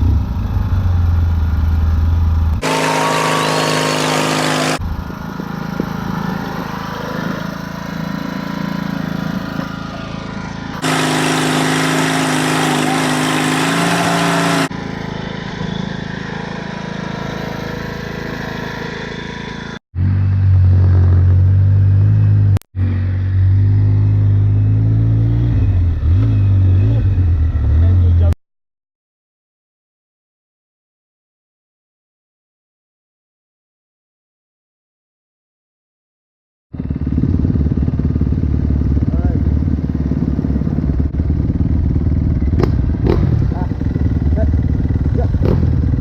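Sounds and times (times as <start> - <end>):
small engines revving: 0.0 - 28.4, 36.8 - 46.0.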